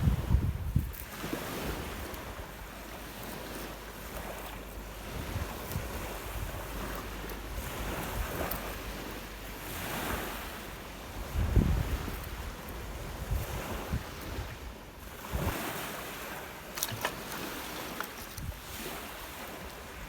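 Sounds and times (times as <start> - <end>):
lake waves breaking on shore: 0.0 - 20.0
wind buffeting microphone: 0.0 - 20.0.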